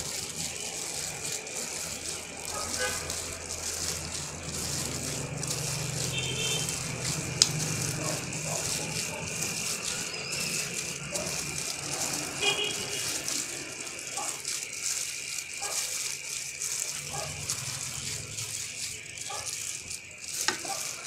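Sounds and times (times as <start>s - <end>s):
hand kneading wet cassava: 0.0s - 21.0s
plastic glove crinkling: 0.0s - 21.0s.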